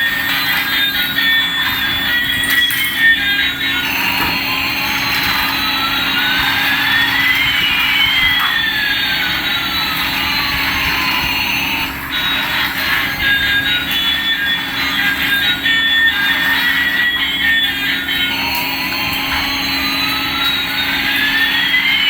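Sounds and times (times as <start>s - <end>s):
gliding electronic tones: 0.0s - 22.0s
steady electronic hum: 0.0s - 22.0s.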